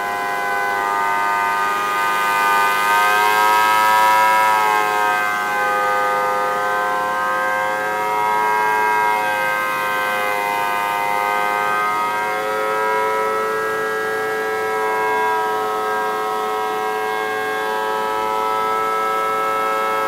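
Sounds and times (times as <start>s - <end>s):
two-tone rotating siren: 0.0s - 20.0s.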